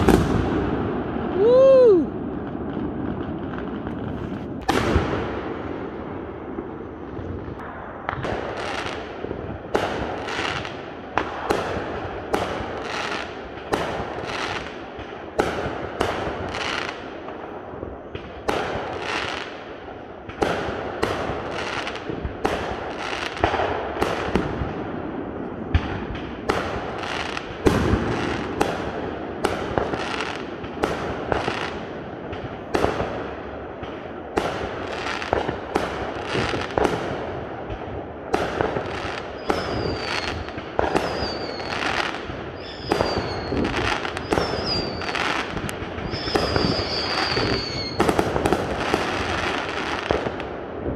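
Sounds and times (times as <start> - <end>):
fireworks bangs: 0.0 - 50.9
fireworks crackling: 0.0 - 50.9.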